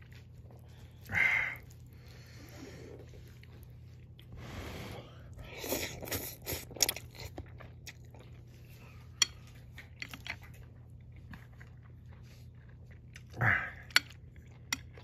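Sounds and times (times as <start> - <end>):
chewing and mouth sounds: 0.0 - 4.4, 5.3 - 15.0.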